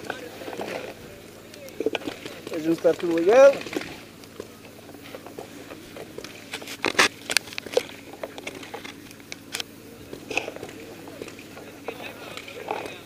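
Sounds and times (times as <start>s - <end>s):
gear rattling: 0.0s - 13.0s.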